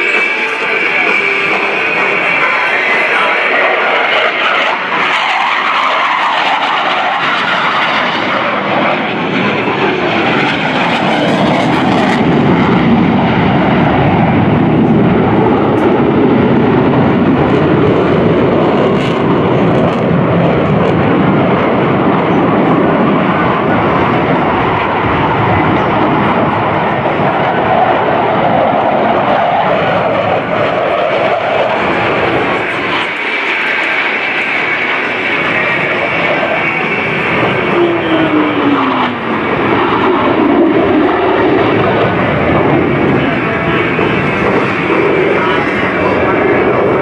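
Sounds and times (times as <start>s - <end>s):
jet engine rush: 0.0s - 47.0s.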